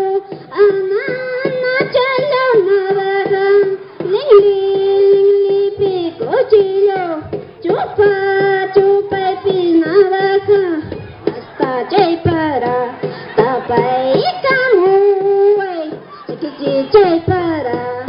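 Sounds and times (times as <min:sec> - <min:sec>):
high-pitched voices singing: 0:00.0 - 0:18.0
steady beat: 0:00.0 - 0:18.0.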